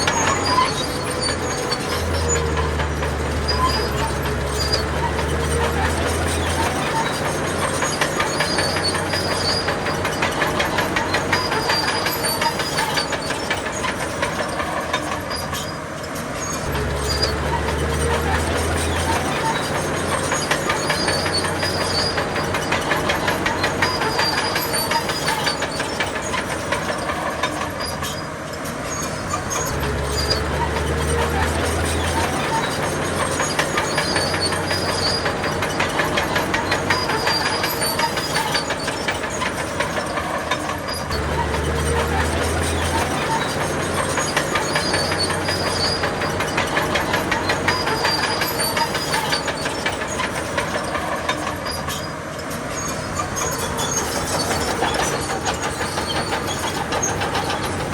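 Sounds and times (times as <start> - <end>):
bulldozer diesel engine under load: 0.0 - 57.9
crawler tracks clattering: 0.0 - 57.9.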